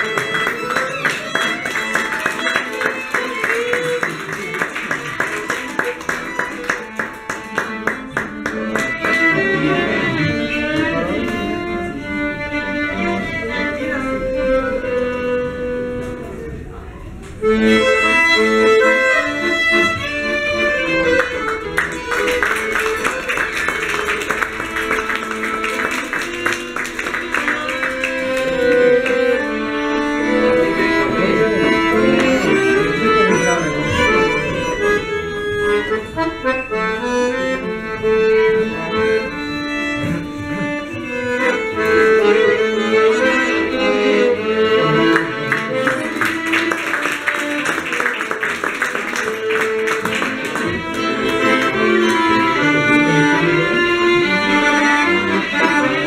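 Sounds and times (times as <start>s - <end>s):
piano accordion melody: 0.0s - 16.6s, 17.3s - 56.0s.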